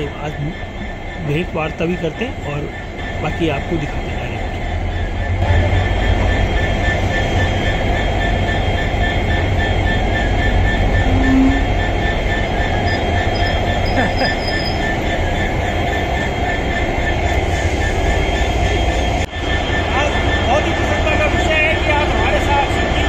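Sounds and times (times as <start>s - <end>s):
train rumbling over rails: 0.0s - 23.0s
high-pitched wheel squeal: 4.2s - 22.8s.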